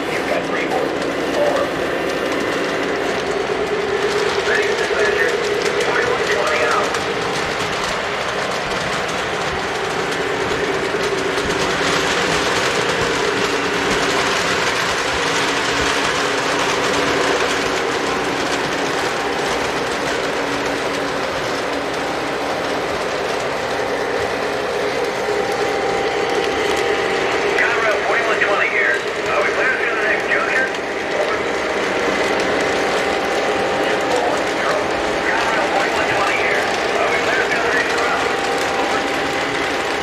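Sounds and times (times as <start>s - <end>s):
model train motors whirring: 0.0s - 40.0s
wheels rolling on rails: 0.0s - 40.0s.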